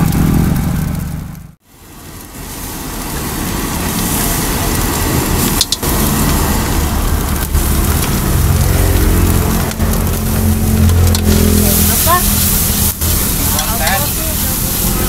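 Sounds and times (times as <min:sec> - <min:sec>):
low steady rumble: 0:00.0 - 0:15.0
food sizzling in a wok: 0:01.6 - 0:15.0.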